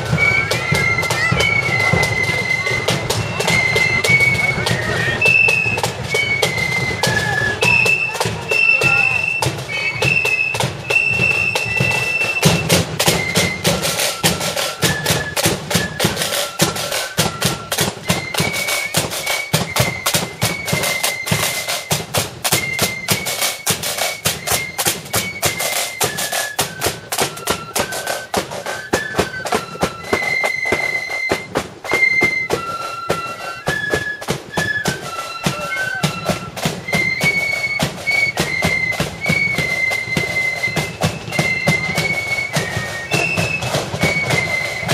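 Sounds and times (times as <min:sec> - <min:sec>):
flutes playing in unison: 0:00.0 - 0:44.9.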